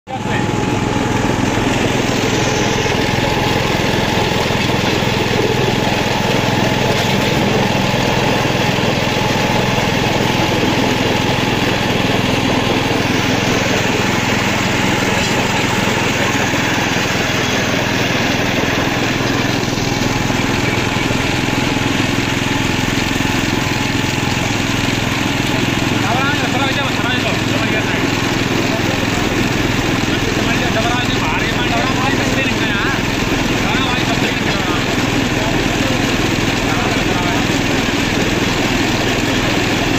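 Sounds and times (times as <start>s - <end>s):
small engine running: 0.1s - 39.9s.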